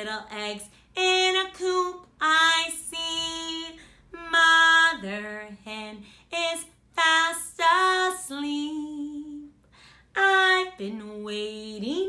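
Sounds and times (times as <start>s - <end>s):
woman singing children's song: 0.0s - 12.0s.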